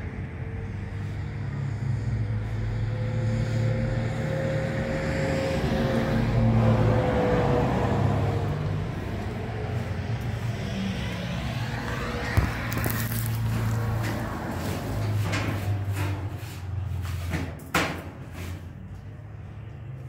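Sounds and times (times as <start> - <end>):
vehicle engine passing by: 0.0 - 20.0.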